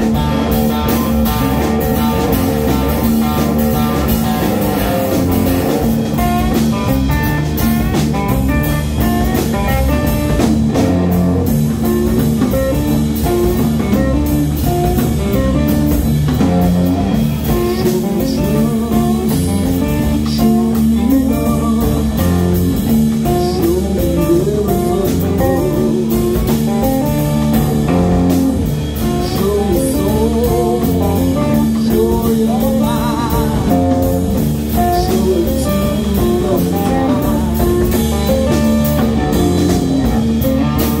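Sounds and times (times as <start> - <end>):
bent electric guitar notes: 0.0 - 41.0
live blues band playing: 0.0 - 41.0.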